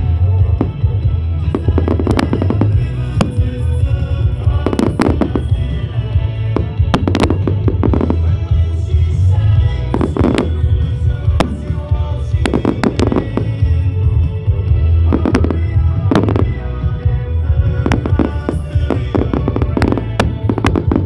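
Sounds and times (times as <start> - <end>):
fireworks banging and crackling: 0.0 - 21.0
loud music with heavy bass: 0.0 - 21.0.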